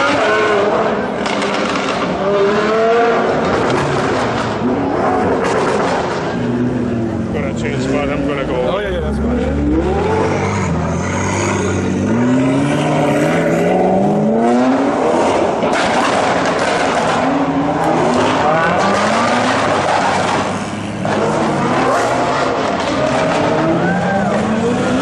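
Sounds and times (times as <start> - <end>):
sports car engines revving: 0.0 - 25.0.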